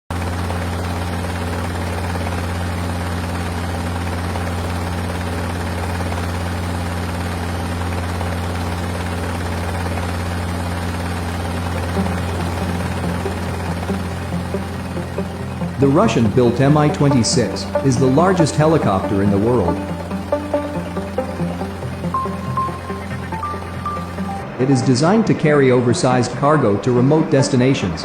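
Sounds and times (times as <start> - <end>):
helicopter engines and rotor: 0.1 - 24.6.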